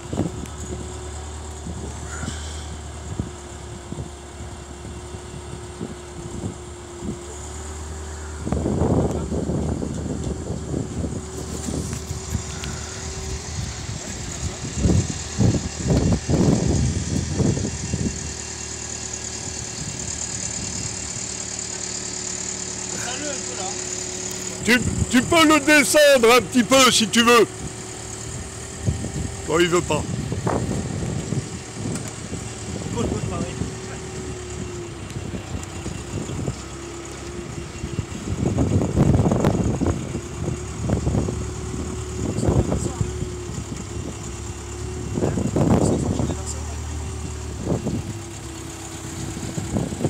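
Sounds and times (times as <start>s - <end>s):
crane motor humming: 0.0s - 50.0s
low rumbles: 0.0s - 50.0s.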